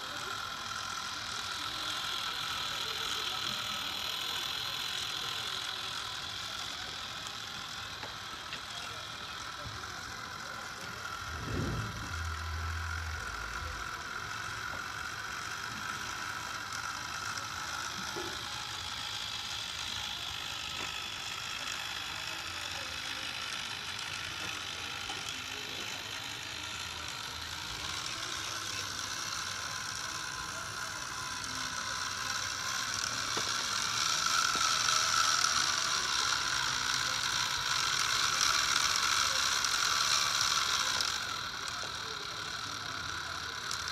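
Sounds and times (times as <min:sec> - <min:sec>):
small electric motors whirring: 0:00.0 - 0:43.9.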